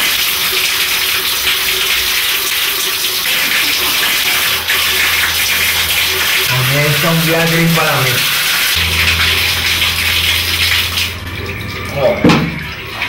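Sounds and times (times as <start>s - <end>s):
shower water splashing on tiles: 0.0s - 13.0s.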